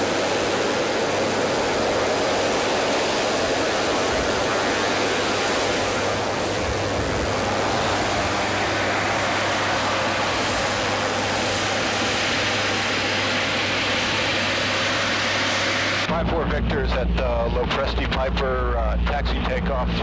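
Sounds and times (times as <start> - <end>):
turbine engine running with whine: 0.0 - 20.0.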